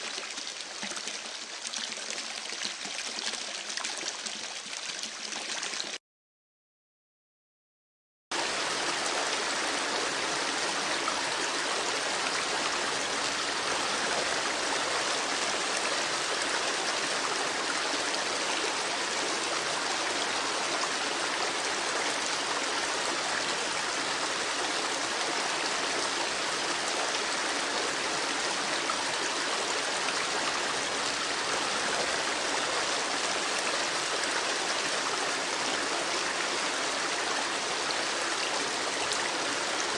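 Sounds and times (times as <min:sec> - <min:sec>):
running water in a creek: 0:00.0 - 0:06.0, 0:08.3 - 0:39.9.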